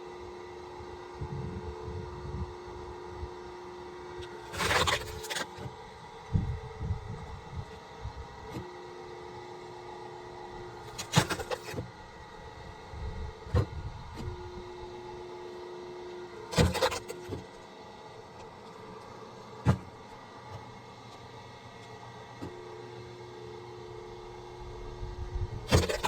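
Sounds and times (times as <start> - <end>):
steady hum: 0.0 - 20.9, 21.8 - 26.0.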